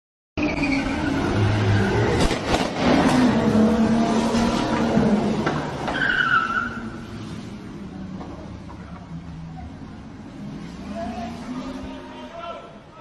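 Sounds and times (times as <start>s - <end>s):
car engine revving: 0.4s - 11.9s.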